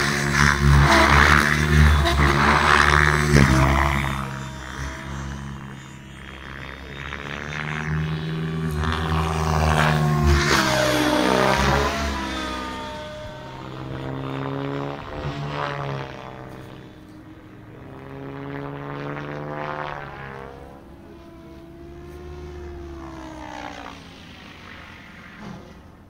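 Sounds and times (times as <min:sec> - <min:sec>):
rc helicopter rotor whine: 0:00.0 - 0:26.0.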